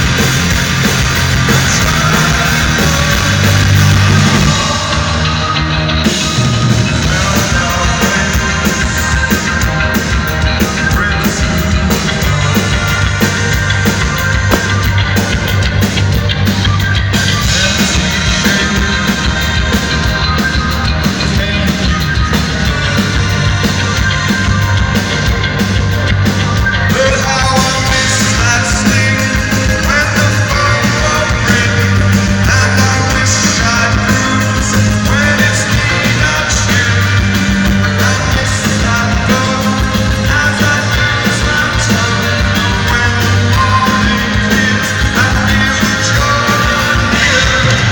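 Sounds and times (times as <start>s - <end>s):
lead vocal singing: 0.0s - 47.9s
live rock band: 0.0s - 47.9s.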